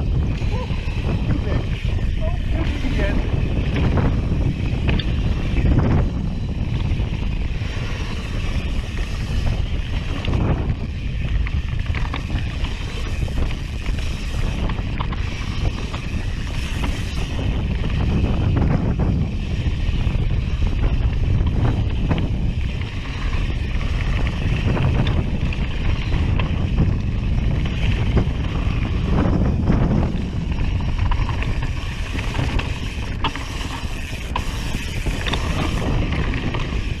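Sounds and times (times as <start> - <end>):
bike knocks and rattles: 0.0 - 37.0
wind buffeting microphone: 0.0 - 37.0.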